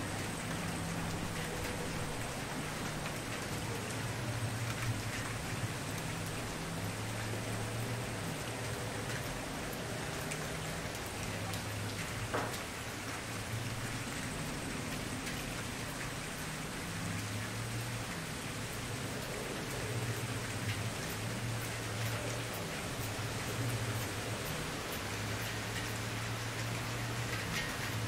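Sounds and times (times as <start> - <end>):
campfire hiss: 0.0 - 28.0.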